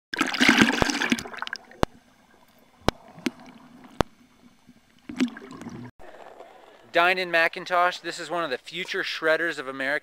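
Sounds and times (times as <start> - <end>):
water splashing and gurgling: 0.1 - 9.1.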